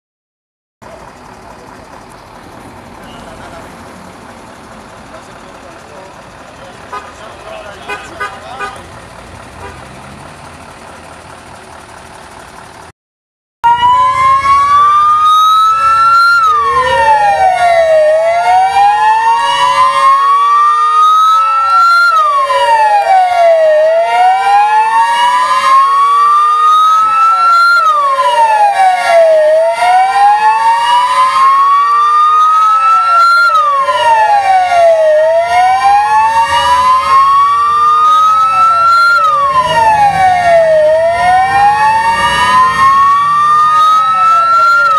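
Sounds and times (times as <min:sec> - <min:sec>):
fire engine sirens wailing: 0:00.9 - 0:12.9, 0:13.6 - 0:44.9.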